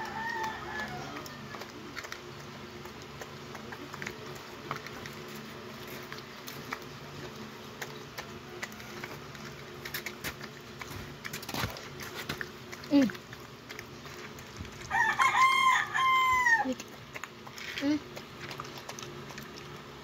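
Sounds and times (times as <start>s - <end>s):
dog chewing and licking: 0.0s - 20.0s
steady low hum: 0.0s - 20.0s.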